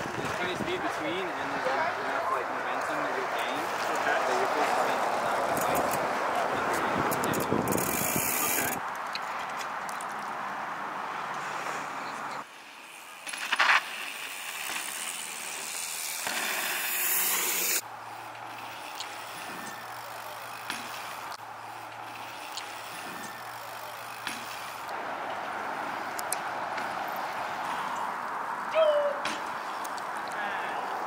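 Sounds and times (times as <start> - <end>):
bicycle tyres on packed dirt: 0.0 - 31.0.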